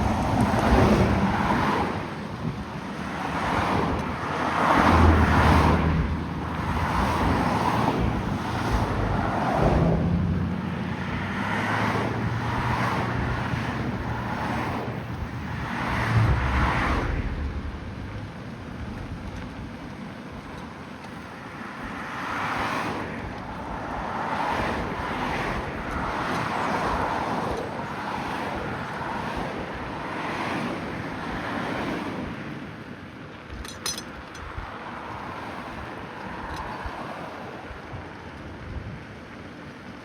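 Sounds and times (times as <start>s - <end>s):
road traffic tyre noise: 0.0s - 40.0s.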